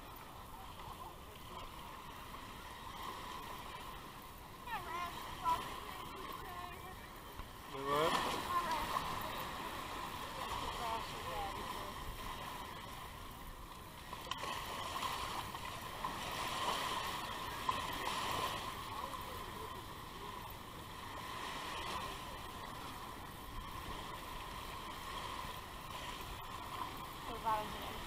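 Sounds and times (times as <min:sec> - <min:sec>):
surf washing around legs: 0:00.0 - 0:28.0.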